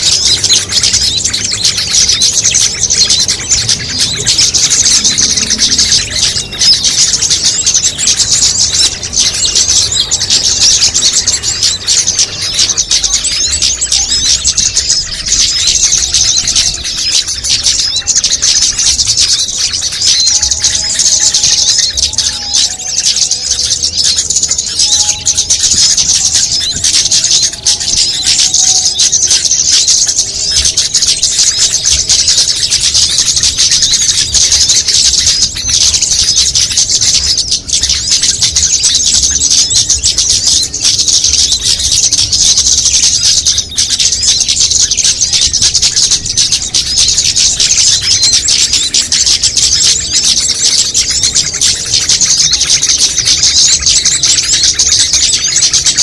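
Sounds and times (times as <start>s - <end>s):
songbirds chattering and chirping: 0.0s - 56.0s.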